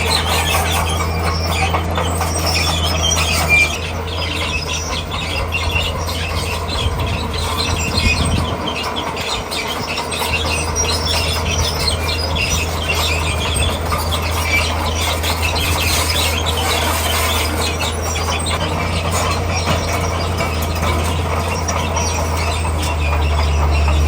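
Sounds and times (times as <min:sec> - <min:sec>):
bulldozer diesel engine running: 0:00.0 - 0:24.0
steel tracks squealing: 0:00.0 - 0:24.0.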